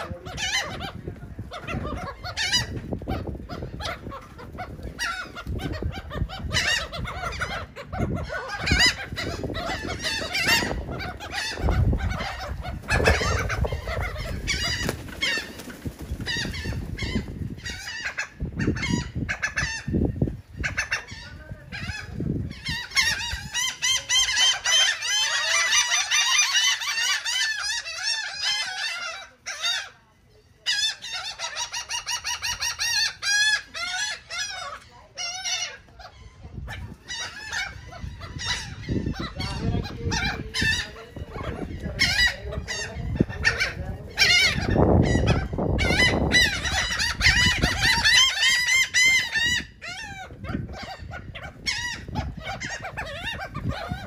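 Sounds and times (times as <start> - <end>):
gulls calling: 0.0 - 54.0.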